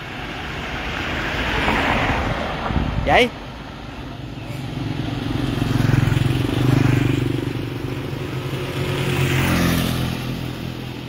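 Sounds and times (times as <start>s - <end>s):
motorbikes passing: 0.0s - 11.0s.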